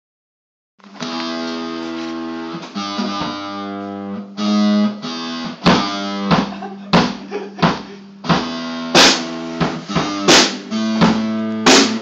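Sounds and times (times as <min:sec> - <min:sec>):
guitar chords ringing: 0:00.8 - 0:12.0.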